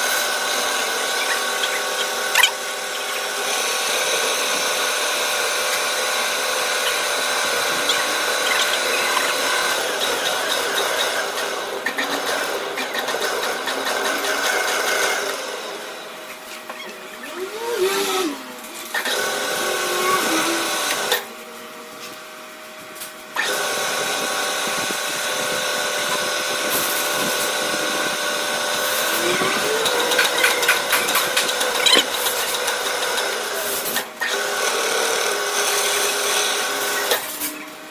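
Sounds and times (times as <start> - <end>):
machine tool whine: 0.0 - 22.6, 23.4 - 37.9.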